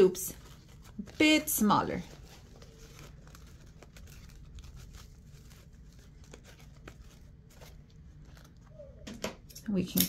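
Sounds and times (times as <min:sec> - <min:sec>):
fabric ribbon rustling: 0:00.0 - 0:09.0.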